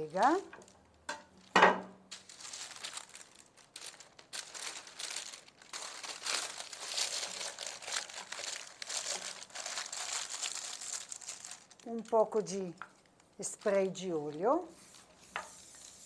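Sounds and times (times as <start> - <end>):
paper crumpling and crinkling: 1.4 - 16.0.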